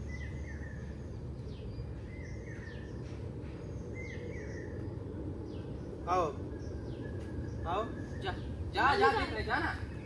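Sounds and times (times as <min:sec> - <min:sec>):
bird chirping: 0:00.0 - 0:10.0
low background rumble: 0:00.0 - 0:10.0.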